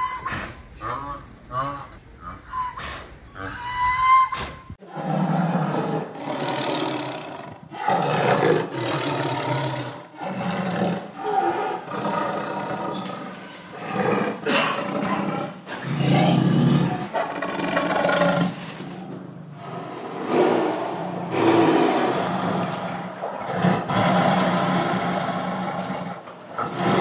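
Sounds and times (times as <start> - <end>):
tiger roaring and growling: 4.8 - 27.0.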